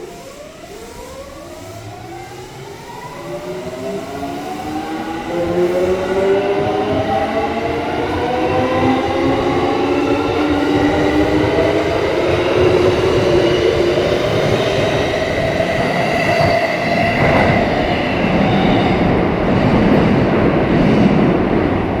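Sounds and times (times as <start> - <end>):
wheels rumbling on rails: 0.2 - 22.0.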